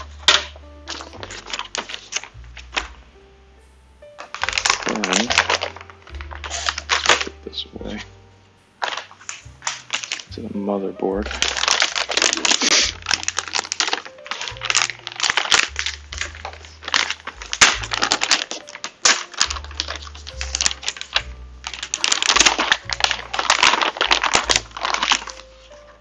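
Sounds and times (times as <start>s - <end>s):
plastic bag crinkling and rustling: 0.0s - 3.1s, 4.2s - 8.2s, 8.8s - 26.0s
background music with bass line: 0.0s - 26.0s.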